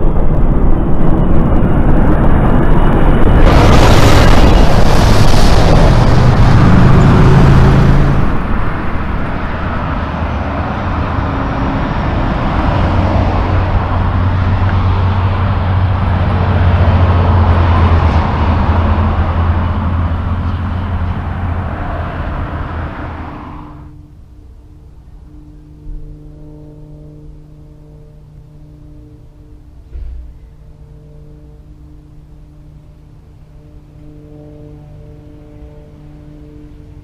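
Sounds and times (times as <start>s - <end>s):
trucks driving past: 0.0s - 37.0s
tyre and road noise: 0.0s - 37.0s.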